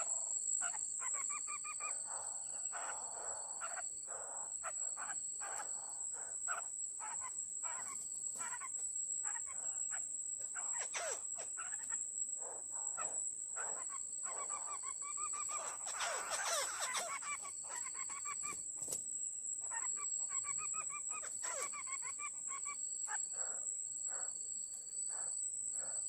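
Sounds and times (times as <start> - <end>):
birds chirping and whistling: 0.0 - 18.6, 19.6 - 22.7
high-pitched insect drone: 0.0 - 18.6, 19.6 - 24.4.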